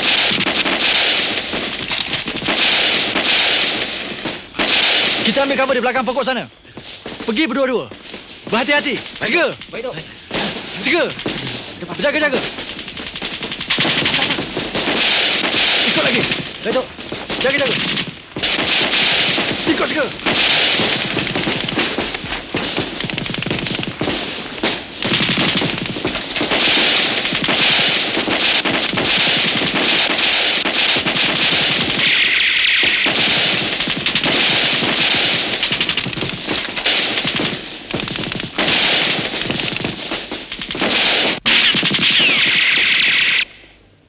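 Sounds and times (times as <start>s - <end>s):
rapid gunfire: 0.0s - 6.1s, 6.8s - 43.5s.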